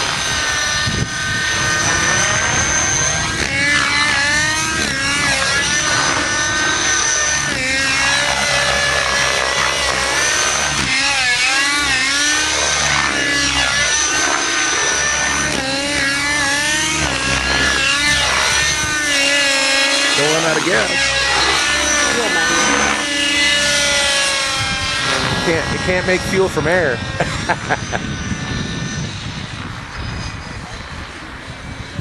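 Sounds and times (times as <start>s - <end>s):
model helicopter engine running: 0.0s - 32.0s.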